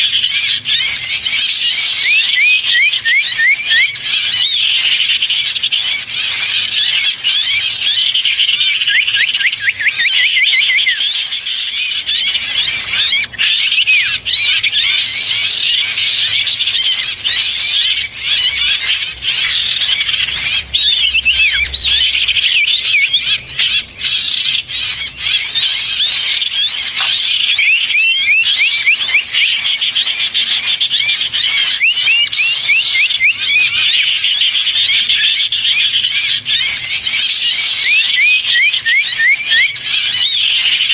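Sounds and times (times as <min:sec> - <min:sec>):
songbirds chirping chorus: 0:00.0 - 0:40.9.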